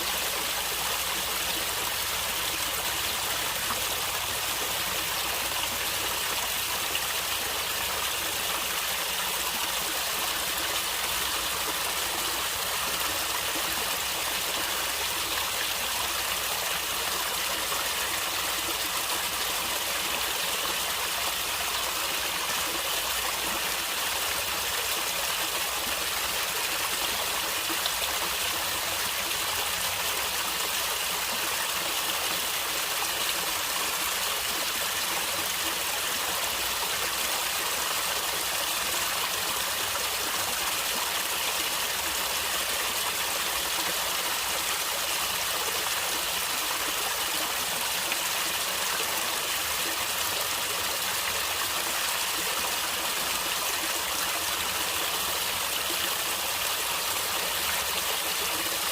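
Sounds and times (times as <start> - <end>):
stream flowing and gurgling: 0.0 - 58.9.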